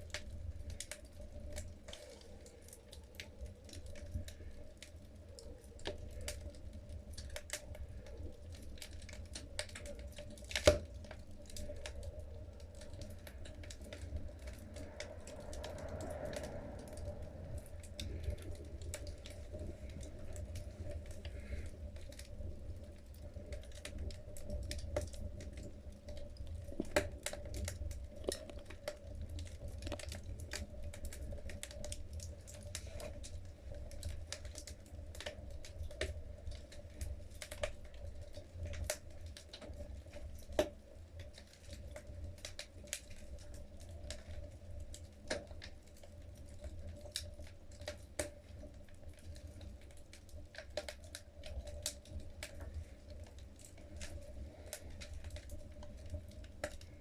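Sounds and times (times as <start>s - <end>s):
logs crackling in fireplace: 0.0s - 57.0s
low fire rumble: 0.0s - 57.0s.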